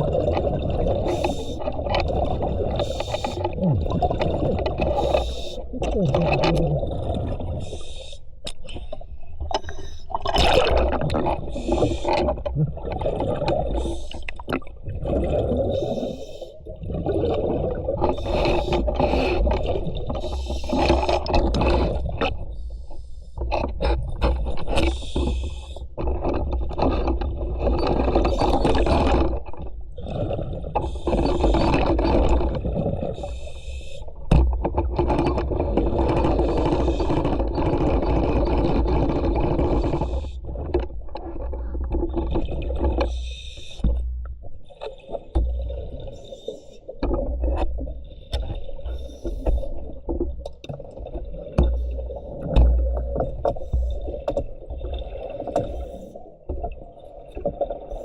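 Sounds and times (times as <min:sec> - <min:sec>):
underwater bubbling exhalation: 0:00.0 - 0:22.6, 0:23.5 - 0:58.0.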